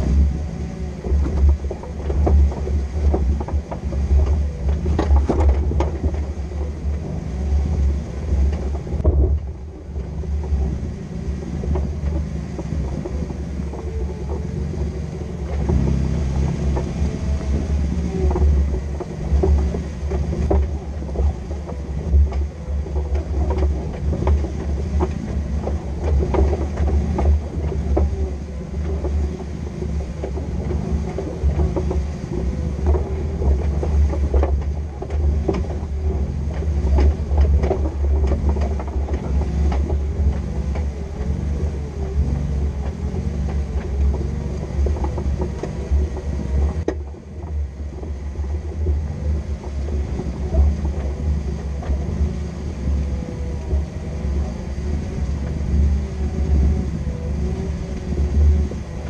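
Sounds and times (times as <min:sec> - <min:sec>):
knocks and rattles: 0:00.0 - 0:59.0
off-road vehicle engine rumble: 0:00.0 - 0:59.0.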